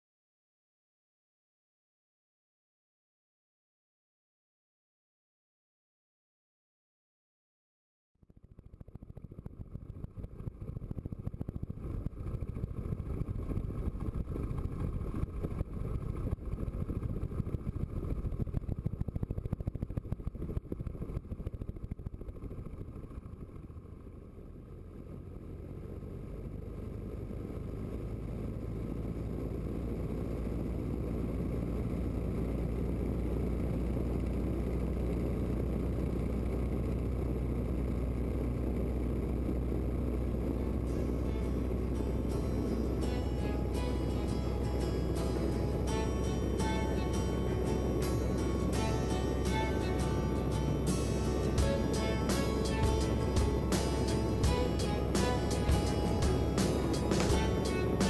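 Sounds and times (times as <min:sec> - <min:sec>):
biplane engine running: 0:09.0 - 0:58.0.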